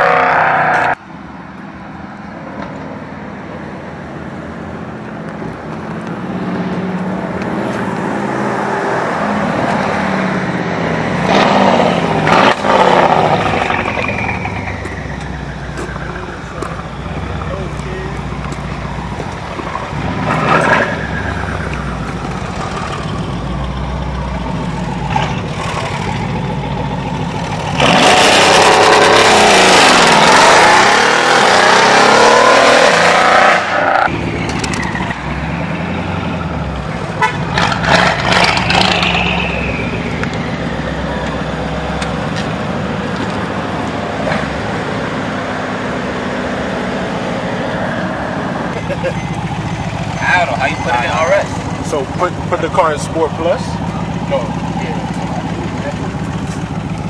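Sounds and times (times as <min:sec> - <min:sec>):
car engine revving: 0:00.0 - 0:01.0, 0:06.1 - 0:57.0.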